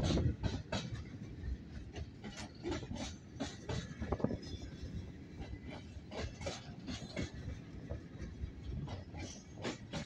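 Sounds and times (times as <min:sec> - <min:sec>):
train wheels clacking over rail joints: 0:00.0 - 0:10.0.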